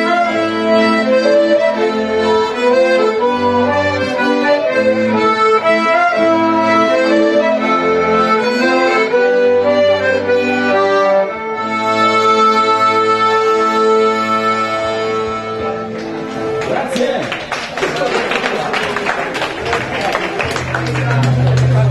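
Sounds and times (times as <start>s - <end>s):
folk band playing dance tune: 0.0s - 21.9s.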